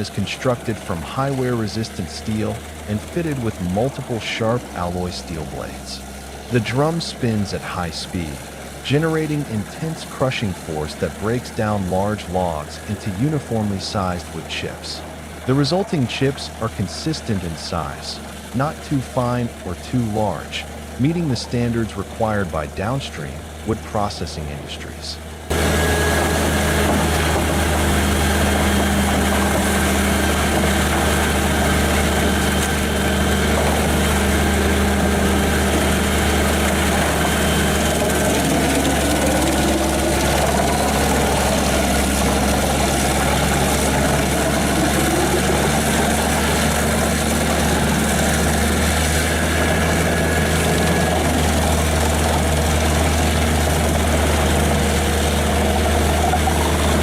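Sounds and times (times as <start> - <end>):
wood chipper diesel engine running: 0.0 - 57.0.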